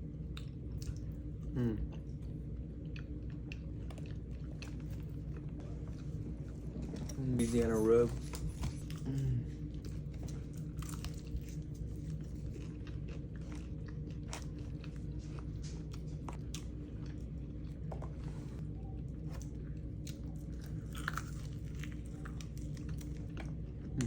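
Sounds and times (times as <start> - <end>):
chewing crispy chicken wings: 0.0 - 7.7, 8.7 - 24.0
low hum: 0.0 - 24.0.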